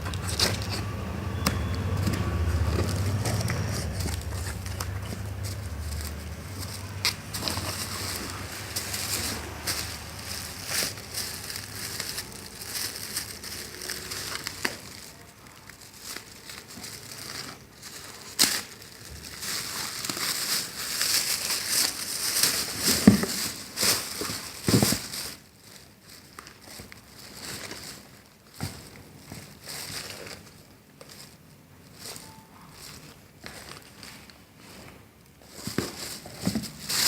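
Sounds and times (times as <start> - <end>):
packaging crinkling and rustling: 0.0 - 37.0.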